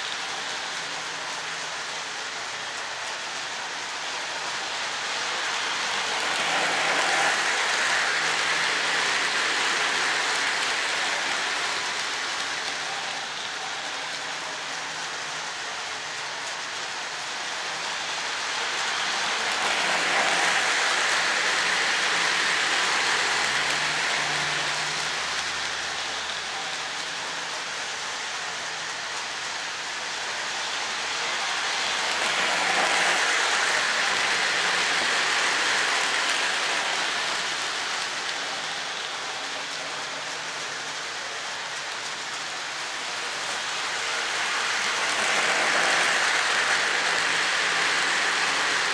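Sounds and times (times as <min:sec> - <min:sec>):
model train wheels and motor rumbling: 0:00.0 - 0:48.9.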